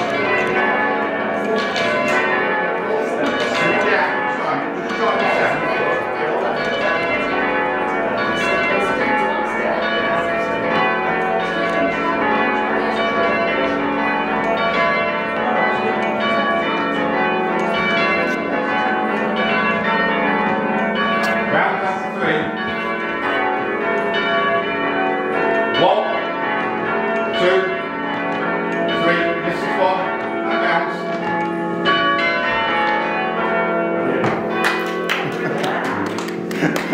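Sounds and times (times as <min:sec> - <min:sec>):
church bells ringing: 0:00.0 - 0:36.9.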